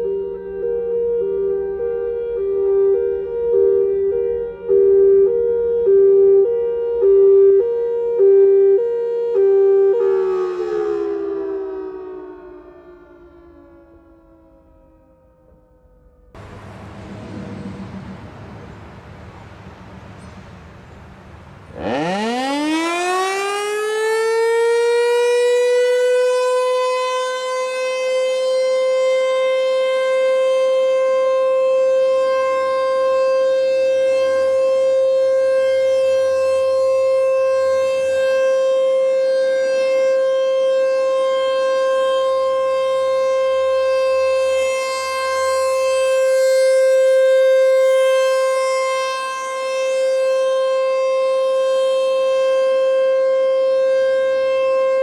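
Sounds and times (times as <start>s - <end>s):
warning siren: 0.0s - 55.0s.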